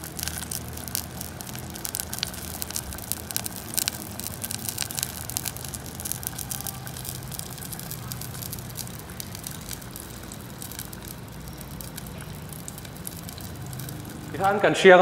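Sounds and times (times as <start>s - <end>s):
broth bubbling in a pot: 0.0s - 14.8s.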